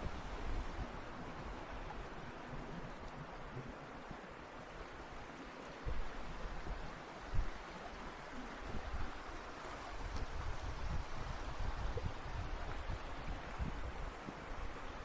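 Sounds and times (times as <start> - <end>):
wind gusts on microphone: 0.0 - 15.0.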